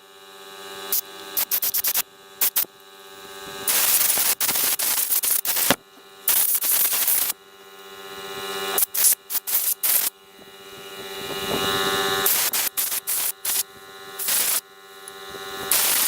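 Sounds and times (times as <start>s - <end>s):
vacuum motor whine: 0.0s - 16.0s.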